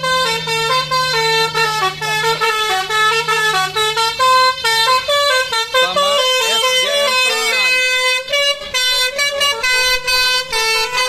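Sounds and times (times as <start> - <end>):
multi-tone air horn tune: 0.0 - 11.0.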